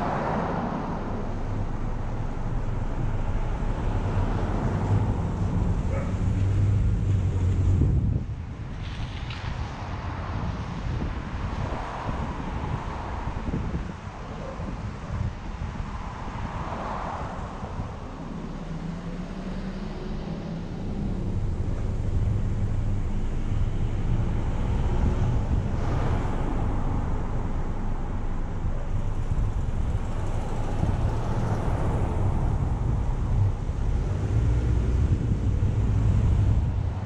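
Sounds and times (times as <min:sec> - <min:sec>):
wind on microphone: 0:00.0 - 0:20.4, 0:21.3 - 0:37.0
car engine and tyre rumble: 0:00.0 - 0:37.0.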